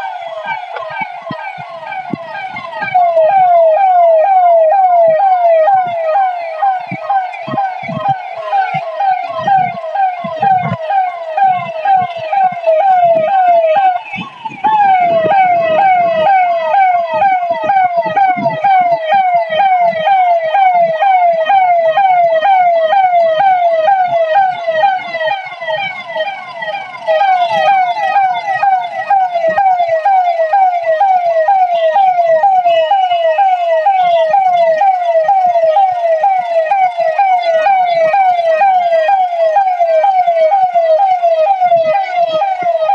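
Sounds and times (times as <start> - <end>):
electronic siren wailing: 0.0 - 42.9.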